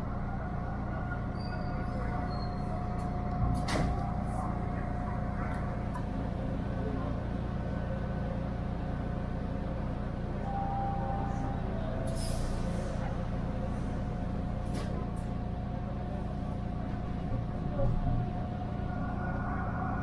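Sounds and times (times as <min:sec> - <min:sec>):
train equipment hum: 0:00.0 - 0:20.0.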